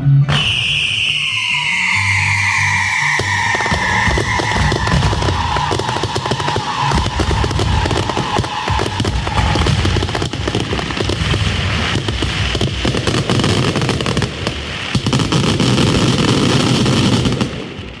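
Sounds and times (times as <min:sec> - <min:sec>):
fireworks crackling bangs: 0:00.3 - 0:18.0.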